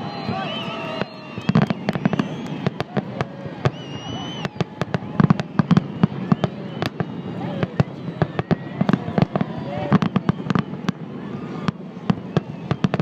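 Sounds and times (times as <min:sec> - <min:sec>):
deep fireworks booms: 0:00.0 - 0:13.0
fireworks bangs and crackles: 0:00.0 - 0:13.0
fireworks whistling: 0:00.0 - 0:13.0.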